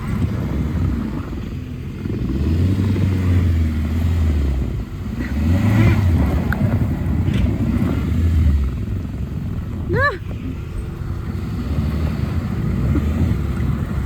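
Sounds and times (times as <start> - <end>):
tractor engine droning: 0.0 - 14.0.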